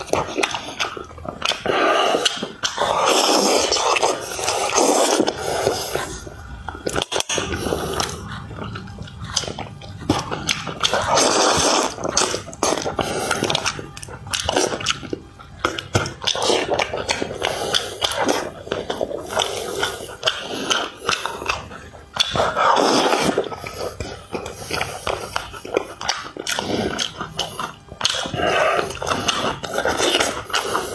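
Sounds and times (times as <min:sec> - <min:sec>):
mouth clicks and smacks: 0:00.0 - 0:30.9
wet chewing: 0:00.0 - 0:30.9.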